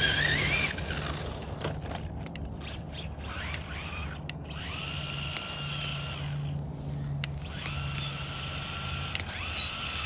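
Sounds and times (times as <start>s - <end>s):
electric motor whining: 0.0s - 2.0s, 2.6s - 10.0s.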